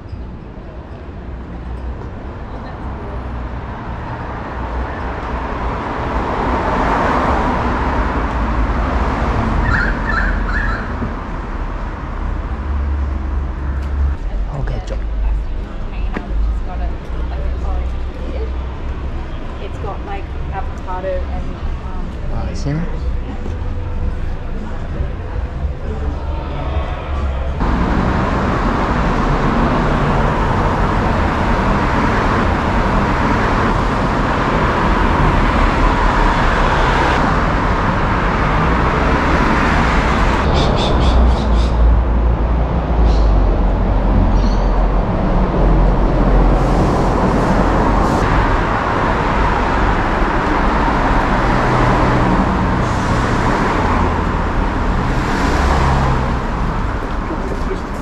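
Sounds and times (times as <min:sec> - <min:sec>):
cars passing: 0:00.0 - 0:58.0
heavy vehicle rumble: 0:00.0 - 0:58.0.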